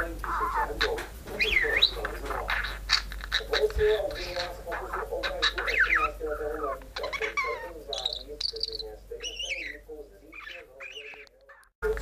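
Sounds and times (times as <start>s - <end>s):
budgerigar chattering and warbling: 0.0s - 11.7s.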